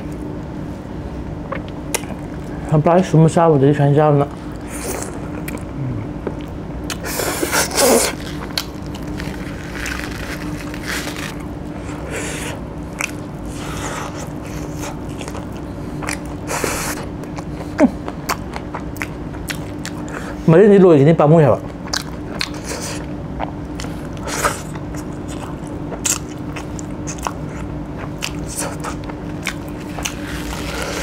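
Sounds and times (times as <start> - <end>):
faint steady hum: 0.0 - 31.0
person chewing and slurping food: 4.6 - 20.4, 21.8 - 31.0.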